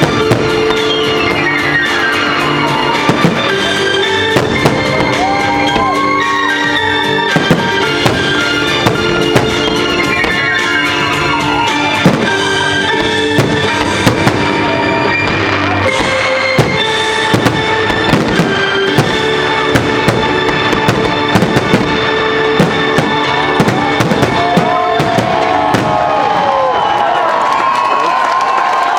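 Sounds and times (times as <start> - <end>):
loud music with held notes: 0.0 - 26.6
fireworks bangs: 0.0 - 27.8.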